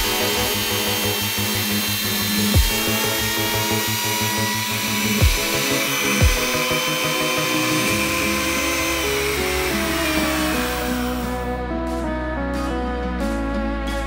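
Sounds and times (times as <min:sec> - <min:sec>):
router whining: 0:00.0 - 0:11.5
background music with beat: 0:00.0 - 0:14.0.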